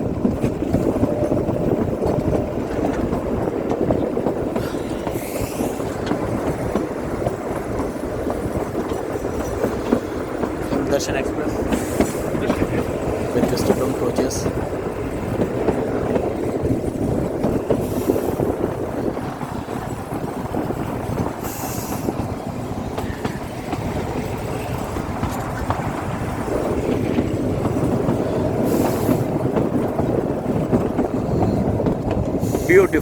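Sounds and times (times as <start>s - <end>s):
train wheels clattering on rails: 0.0s - 33.0s.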